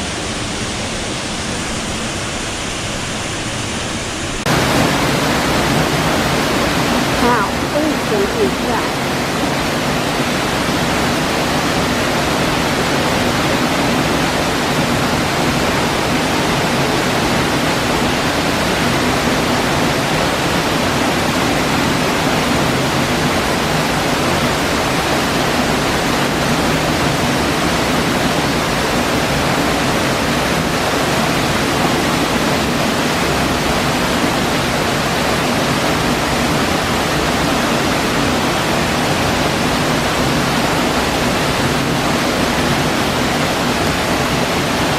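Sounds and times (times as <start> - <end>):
waterfall rushing into pool: 0.0 - 44.9.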